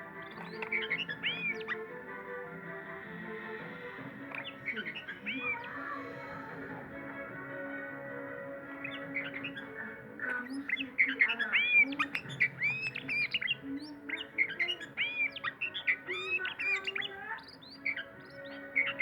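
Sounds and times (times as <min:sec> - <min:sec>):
bird singing chirps and whistles: 0:00.0 - 0:01.9, 0:03.3 - 0:19.0.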